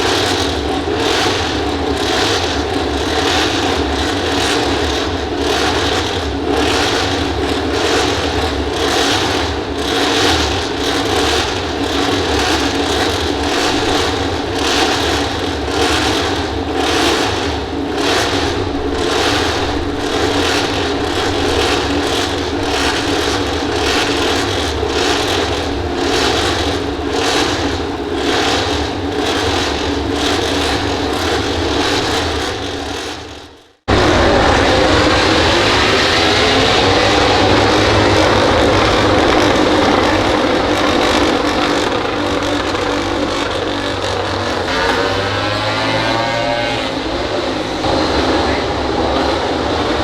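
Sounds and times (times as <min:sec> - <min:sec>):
racing motorcycle engines revving: 0:00.0 - 0:50.0.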